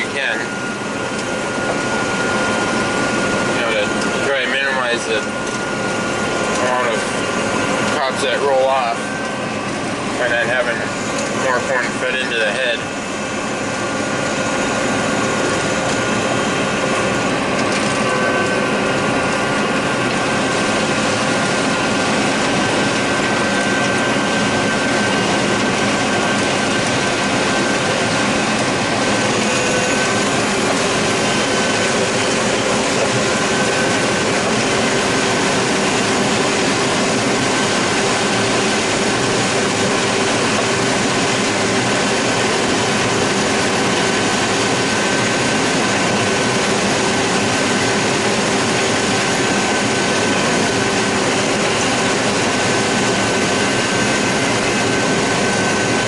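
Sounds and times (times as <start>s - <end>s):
combine harvester mechanical din: 0.0s - 56.0s
steady whining tones: 0.0s - 56.0s.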